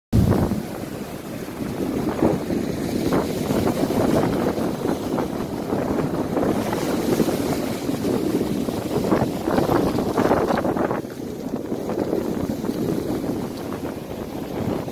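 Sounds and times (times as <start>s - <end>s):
wind buffeting microphone: 0.1s - 14.9s
sea waves breaking on beach: 0.2s - 14.9s.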